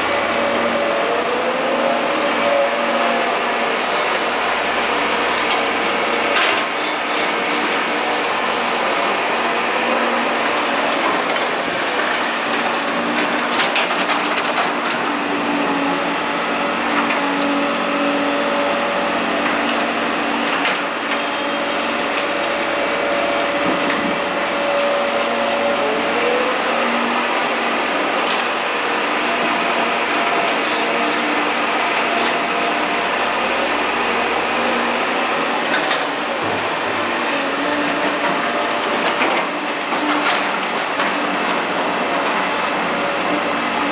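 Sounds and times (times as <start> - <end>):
excavator diesel engine droning: 0.0 - 43.9.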